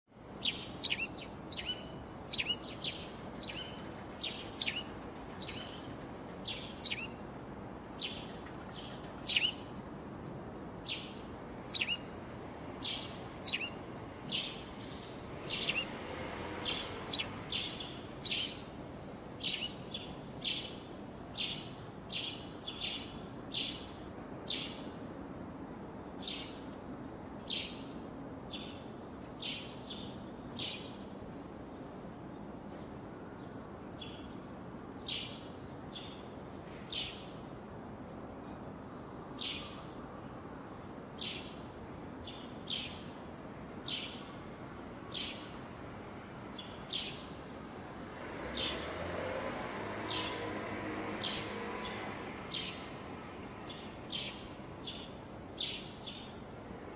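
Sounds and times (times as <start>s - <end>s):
steady low hiss: 0.1s - 48.4s, 52.6s - 56.9s
sparrows chirping: 0.2s - 10.0s, 10.7s - 25.0s, 25.7s - 26.8s, 27.4s - 37.6s, 38.4s - 40.1s, 41.2s - 47.5s, 48.3s - 49.1s, 49.9s - 56.5s.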